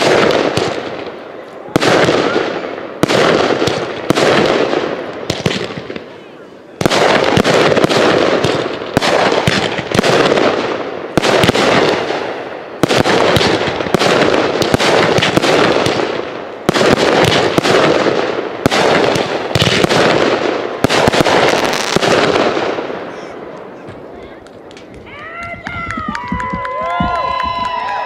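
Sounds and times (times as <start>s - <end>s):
fireworks booming: 0.0s - 27.9s
fireworks crackling: 0.0s - 28.0s.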